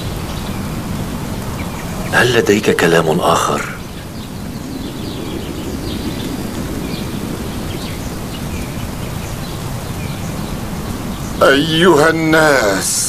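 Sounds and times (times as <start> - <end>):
low ambient background noise: 0.0 - 13.0.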